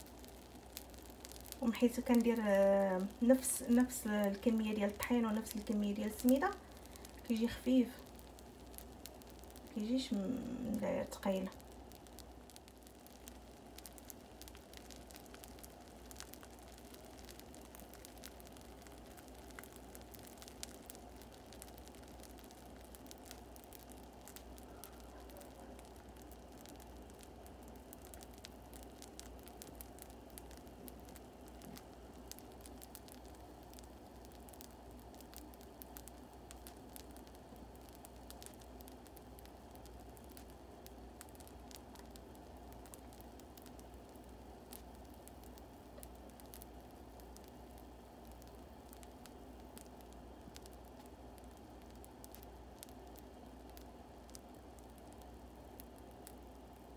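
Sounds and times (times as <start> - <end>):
pancake batter crackling in a pan: 0.0 - 56.9.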